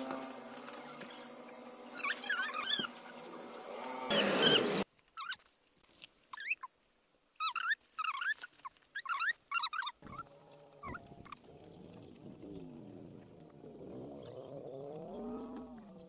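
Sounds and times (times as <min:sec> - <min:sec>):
small birds peeping: 0:00.0 - 0:05.4, 0:07.4 - 0:16.0.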